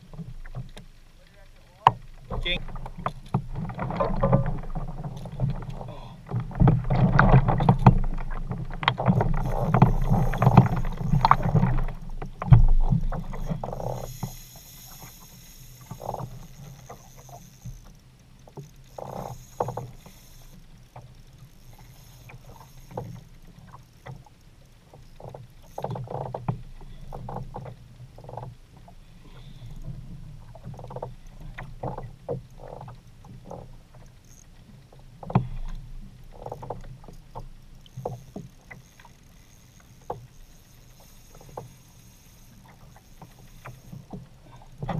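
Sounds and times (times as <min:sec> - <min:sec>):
water splashing against kayak hull: 0:00.0 - 0:44.9.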